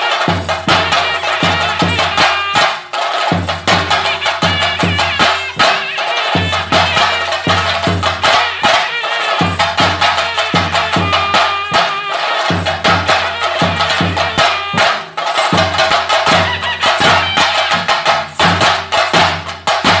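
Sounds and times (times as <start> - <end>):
drums beaten with sticks: 0.0 - 20.0.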